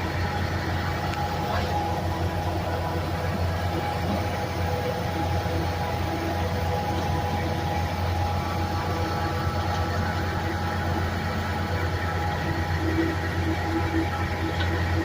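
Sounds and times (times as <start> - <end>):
engine low hum: 0.0 - 15.0
faint steady tones: 0.0 - 15.0.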